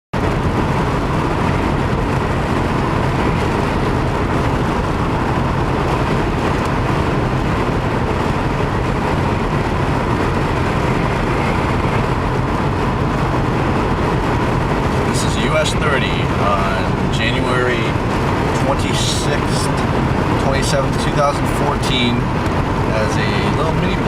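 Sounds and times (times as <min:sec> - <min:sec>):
car road and engine noise: 0:00.1 - 0:24.0.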